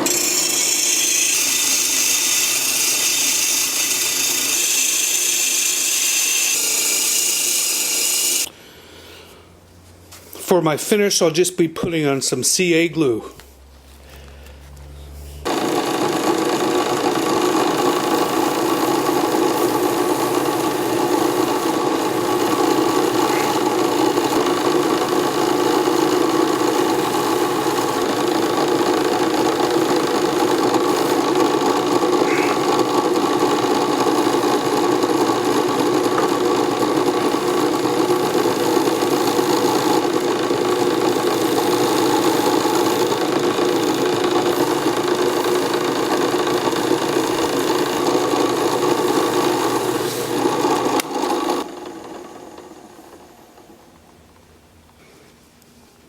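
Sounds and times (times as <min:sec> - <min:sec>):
lathe motor hum and whine: 0:00.0 - 0:08.5, 0:15.4 - 0:54.0.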